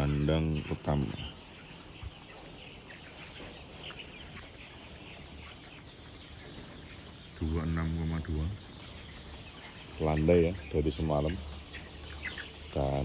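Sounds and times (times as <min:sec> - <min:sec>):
chicks chirping and clucking: 0:00.0 - 0:13.0.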